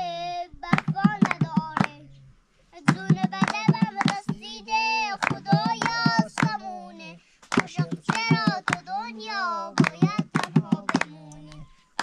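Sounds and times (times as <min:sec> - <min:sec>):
rhythmic handclaps: 0:00.7 - 0:02.0, 0:02.8 - 0:12.0.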